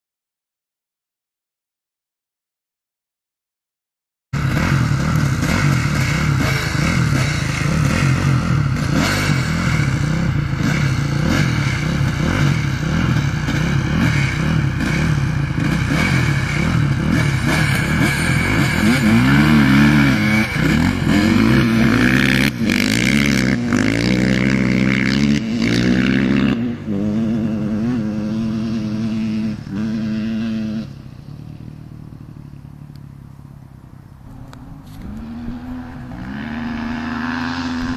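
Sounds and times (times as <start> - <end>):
vehicle engine revving: 4.4 - 37.9.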